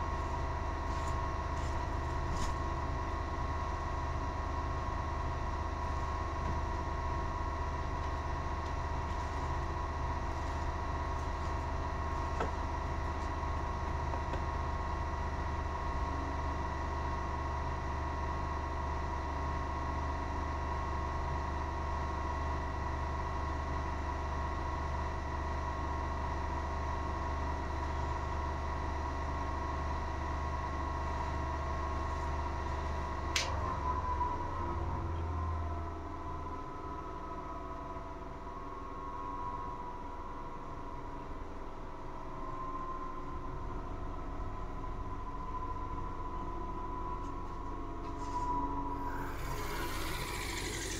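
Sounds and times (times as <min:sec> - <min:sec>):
centrifuge motor hum and whine: 0:00.0 - 0:50.9.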